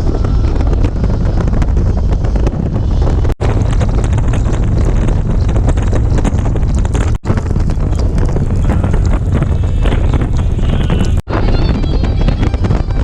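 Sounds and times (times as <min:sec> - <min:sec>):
motorcycle engine drone: 0:00.0 - 0:13.0
wind buffeting microphone: 0:00.0 - 0:13.0.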